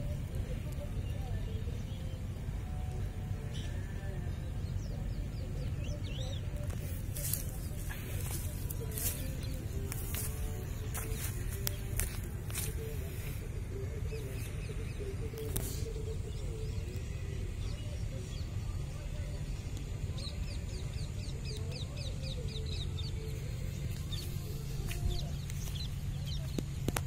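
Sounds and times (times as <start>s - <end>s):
birds calling: 0.0s - 27.0s
steady low rumble: 0.0s - 27.0s.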